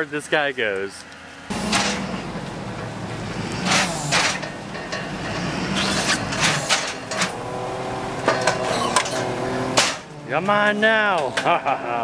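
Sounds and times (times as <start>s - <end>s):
tow truck engine running: 1.1s - 11.8s
metal clanks and rattles: 1.5s - 11.8s.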